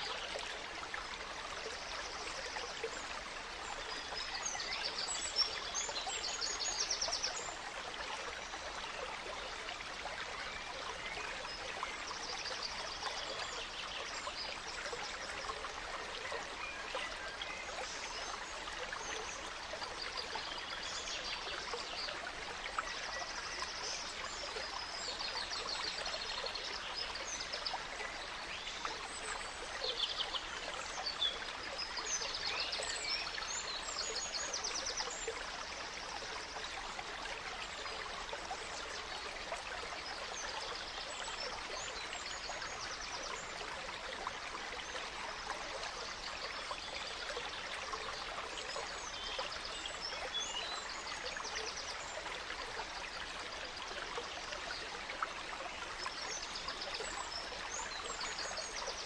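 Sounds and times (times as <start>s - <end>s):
gentle stream running: 0.0s - 59.0s.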